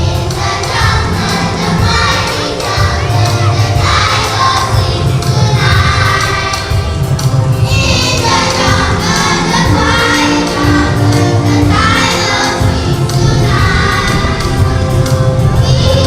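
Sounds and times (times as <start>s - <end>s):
group of voices singing: 0.0s - 16.0s
instrumental music: 0.0s - 16.0s.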